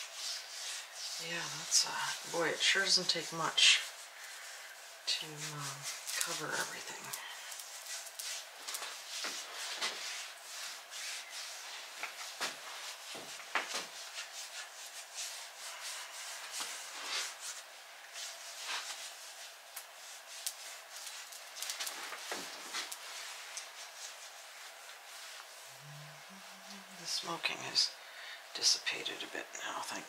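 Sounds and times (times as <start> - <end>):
brush rubbing on cast iron: 0.0 - 27.9.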